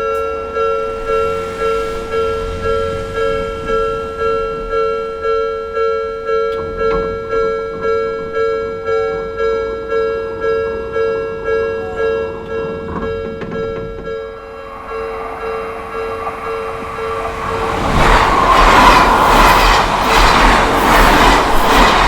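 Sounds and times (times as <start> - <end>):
level-crossing warning bell ringing: 0.0 - 22.0.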